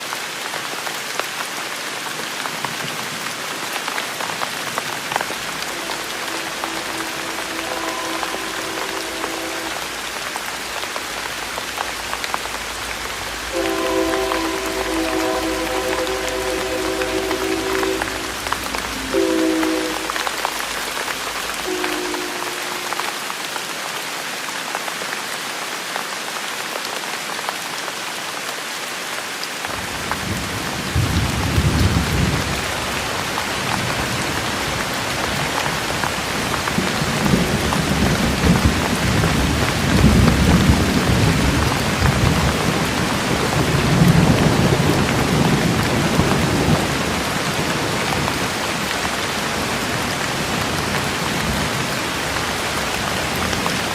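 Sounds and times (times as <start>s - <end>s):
heavy rain hissing: 0.0s - 25.4s, 29.6s - 53.9s.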